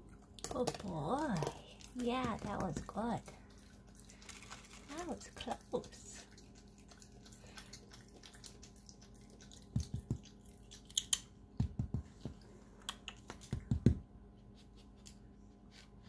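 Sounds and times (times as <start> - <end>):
raccoon crunching nuts: 0.0 - 13.9.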